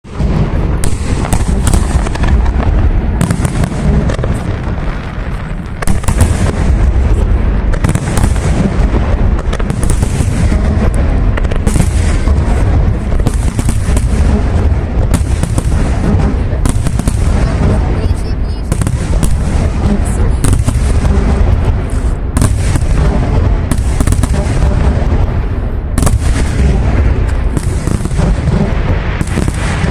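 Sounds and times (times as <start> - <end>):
fireworks bangs and booms: 0.0 - 29.9.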